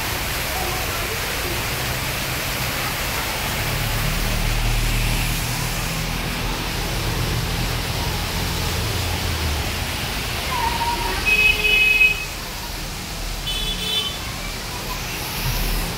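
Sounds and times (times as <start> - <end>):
water gushing and splashing: 0.0 - 15.9.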